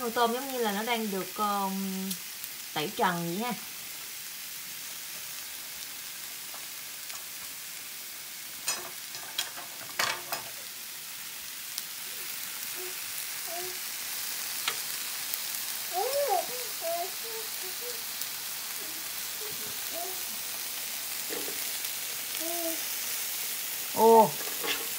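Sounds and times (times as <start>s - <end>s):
shrimp sizzling in a pan: 0.0s - 24.9s.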